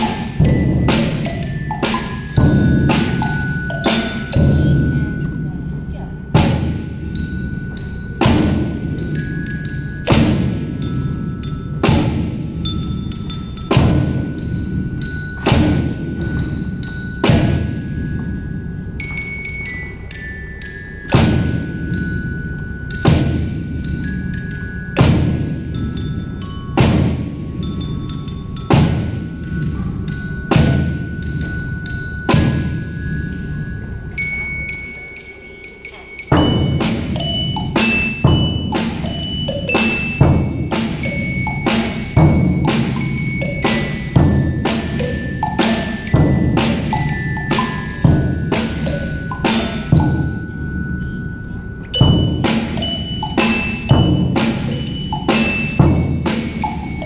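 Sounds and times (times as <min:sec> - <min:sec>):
glockenspiel and xylophone melody: 0:00.0 - 0:57.0.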